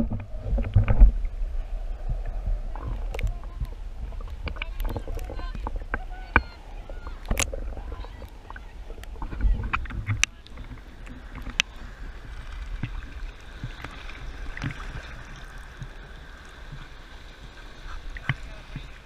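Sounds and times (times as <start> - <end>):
low rumbling churn: 0.0 - 19.0
seawater sloshing and lapping: 0.0 - 19.0.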